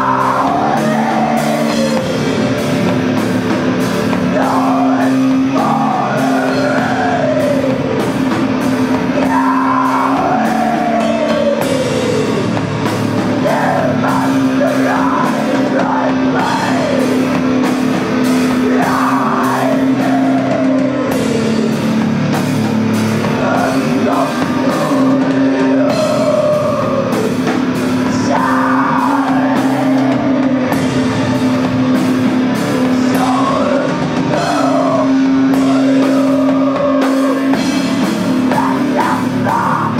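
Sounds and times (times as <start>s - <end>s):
heavy rock band playing: 0.0s - 39.9s.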